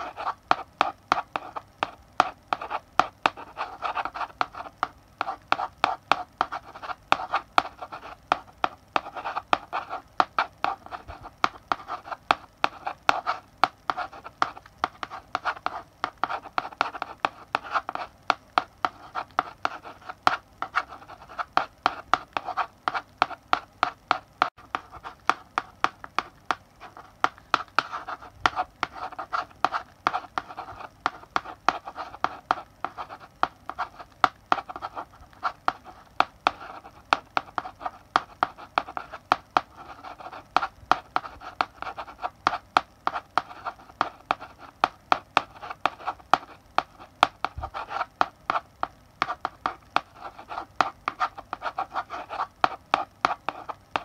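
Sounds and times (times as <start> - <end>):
chalk tapping and scratching: 0.0 - 54.0.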